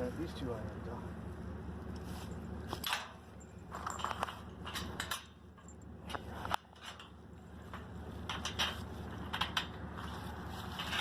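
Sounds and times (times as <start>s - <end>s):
metal parts clinking and scraping: 2.2s - 11.0s.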